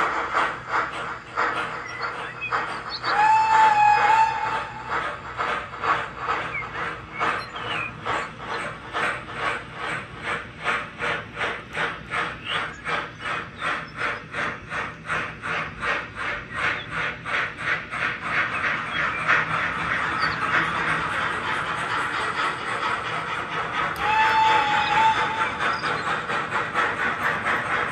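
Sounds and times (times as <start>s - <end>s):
model steam locomotive chuffing: 0.0s - 27.9s.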